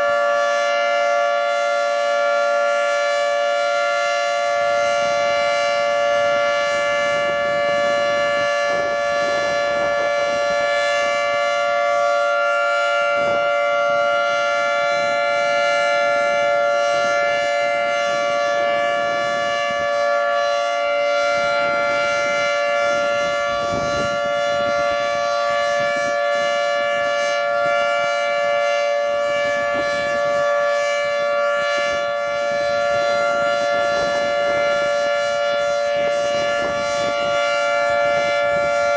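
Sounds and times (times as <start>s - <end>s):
dual-tone warning siren: 0.0s - 38.9s.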